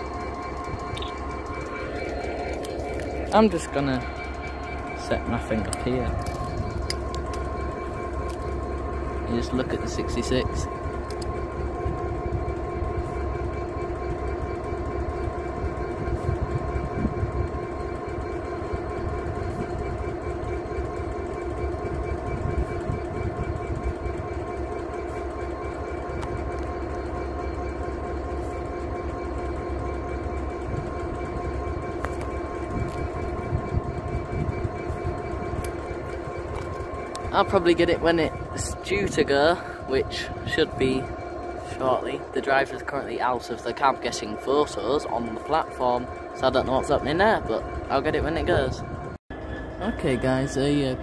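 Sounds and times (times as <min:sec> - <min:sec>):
diesel locomotive engine idling: 0:00.0 - 0:51.0.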